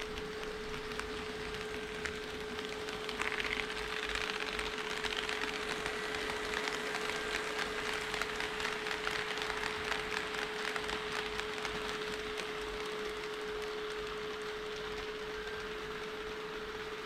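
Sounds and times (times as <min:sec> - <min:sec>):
model train motor hum: 0:00.0 - 0:17.0
model train wheels clicking: 0:00.0 - 0:17.0.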